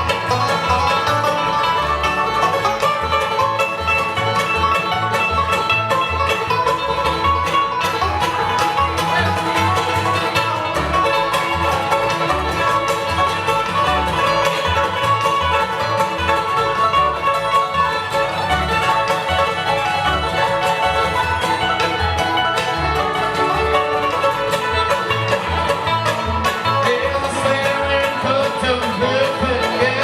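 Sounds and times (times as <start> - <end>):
banjo picking: 0.0 - 30.0
fiddle: 0.0 - 30.0
guitar picking: 0.0 - 30.0.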